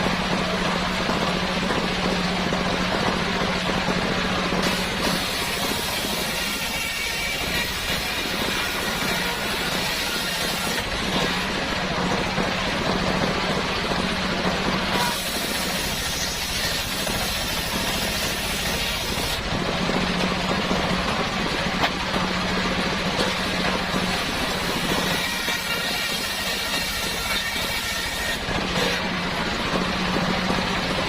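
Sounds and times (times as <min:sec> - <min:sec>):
circular sawmill humming: 0:00.0 - 0:31.0.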